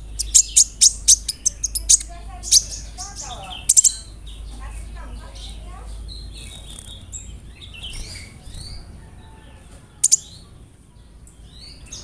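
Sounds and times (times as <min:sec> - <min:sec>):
bird singing high chirps and trills: 0:00.0 - 0:12.0.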